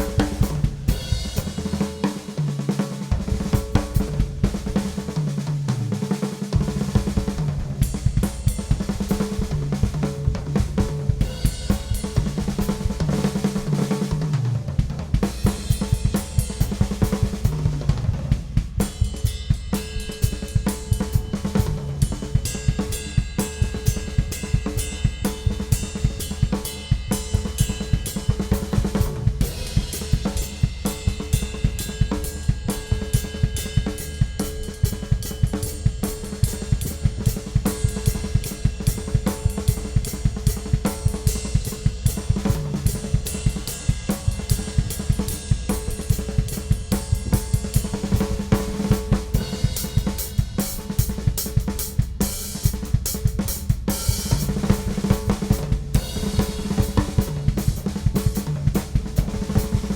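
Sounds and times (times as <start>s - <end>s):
drum kit playing: 0.0s - 59.9s.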